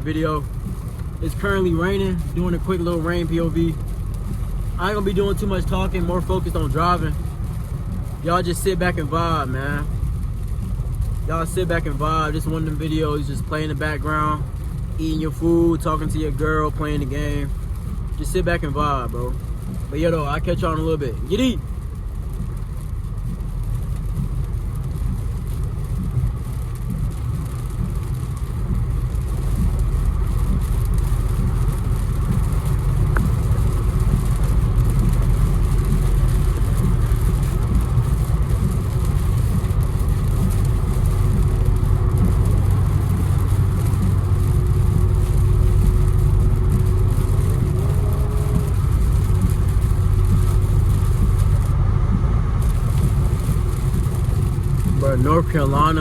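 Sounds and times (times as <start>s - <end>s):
engine and road rumble: 0.0s - 56.0s
tyres and rain hissing: 0.0s - 56.0s.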